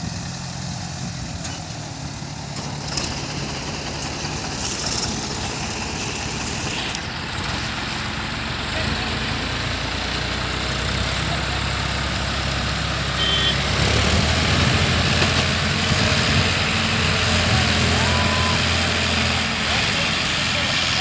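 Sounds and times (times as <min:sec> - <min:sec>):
diesel tractor engines under load: 0:00.0 - 0:21.0.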